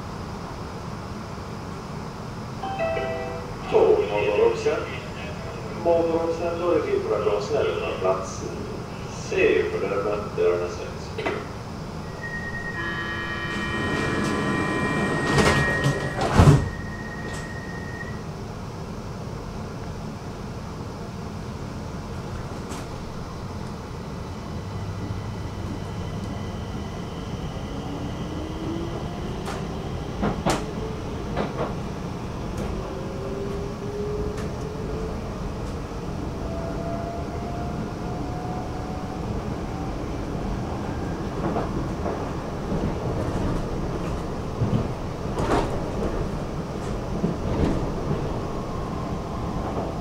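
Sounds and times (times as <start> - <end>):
metro train rumble: 0.0 - 50.0.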